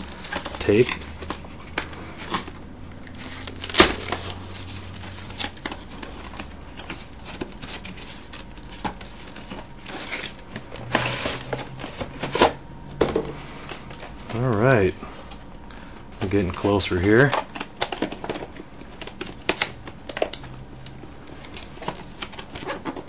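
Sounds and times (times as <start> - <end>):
crinkles and clicks of packaging: 0.0 - 23.0.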